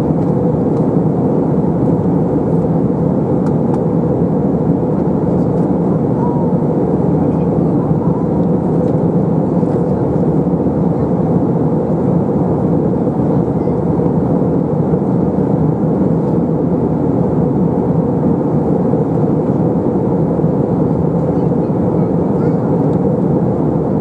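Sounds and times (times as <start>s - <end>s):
airplane cabin engine roar: 0.0s - 24.0s.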